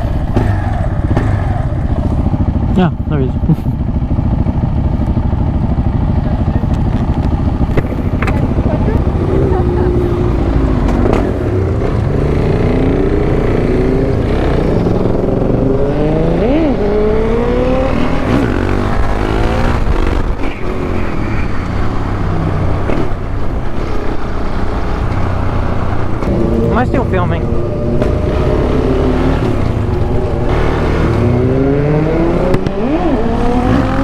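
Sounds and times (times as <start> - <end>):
motorcycle engines revving: 0.0 - 34.0
wind and road rumble: 0.0 - 34.0.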